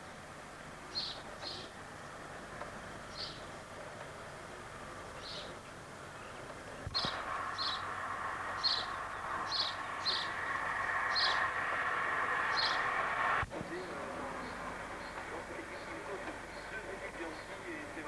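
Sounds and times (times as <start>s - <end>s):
steady hiss: 0.0s - 18.0s
bird chirping: 0.5s - 2.2s, 3.0s - 3.5s, 5.2s - 17.8s.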